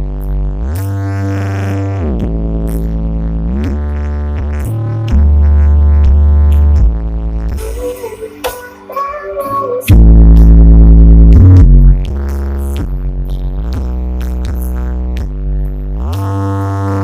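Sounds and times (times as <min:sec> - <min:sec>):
deep sliding synth bass: 0:00.0 - 0:07.9, 0:09.9 - 0:17.0
loud electronic dance music: 0:01.4 - 0:17.0.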